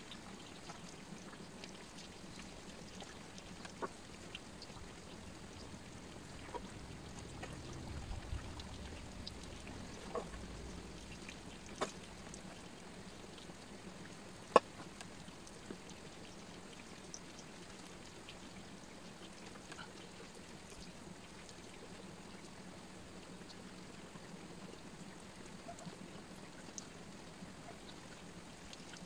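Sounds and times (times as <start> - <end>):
light rain hiss: 0.0 - 29.0.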